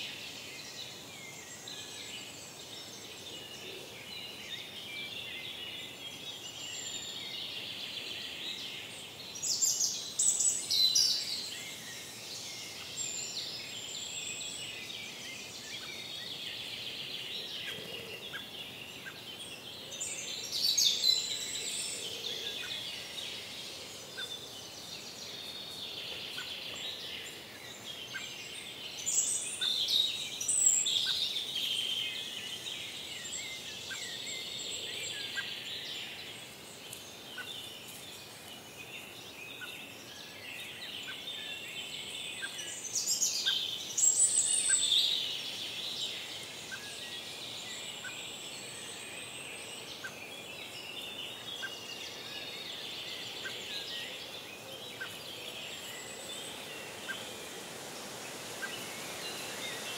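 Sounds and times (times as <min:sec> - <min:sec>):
soft steady background hiss: 0:00.0 - 0:59.9
songbirds singing: 0:00.0 - 0:59.9.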